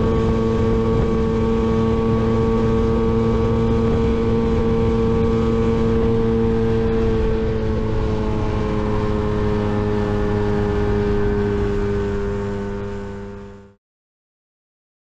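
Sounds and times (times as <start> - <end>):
wind rush: 0.0 - 12.8
scooter two-stroke engine running hard: 0.0 - 13.8.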